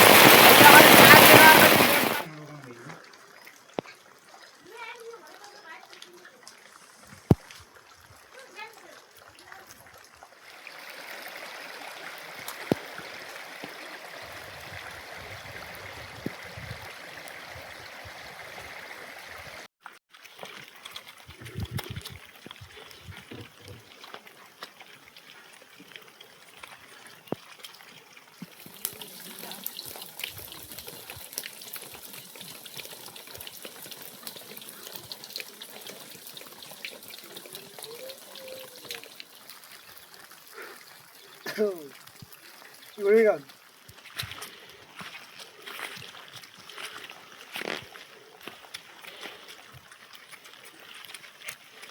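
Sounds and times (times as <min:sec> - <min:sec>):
water trickling and splashing: 0:00.0 - 0:51.9.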